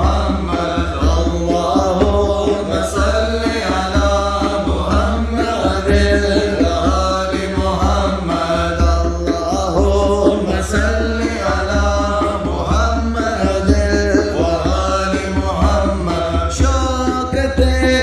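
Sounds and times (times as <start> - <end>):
voices chanting a devotional refrain: 0.0 - 18.0.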